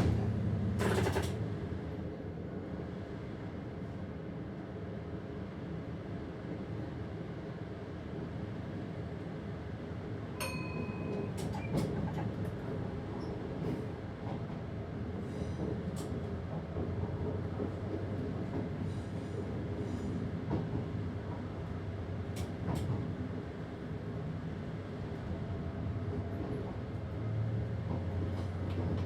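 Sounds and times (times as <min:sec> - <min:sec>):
train rumble on rails: 0:00.0 - 0:29.0.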